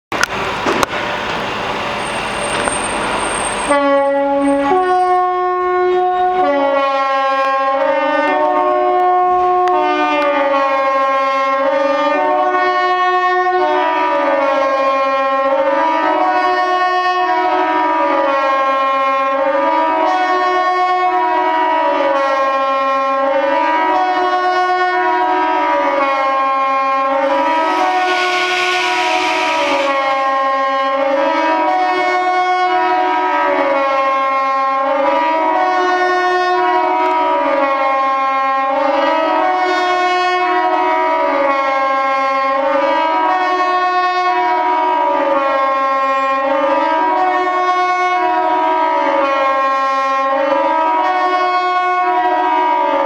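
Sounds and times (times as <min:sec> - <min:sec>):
siren rising and falling wail: 0:01.8 - 0:53.0.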